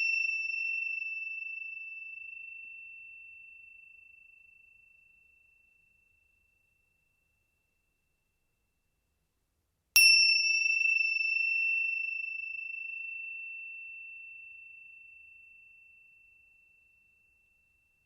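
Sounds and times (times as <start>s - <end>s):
small bell ringing: 0.0s - 7.1s, 10.0s - 18.0s.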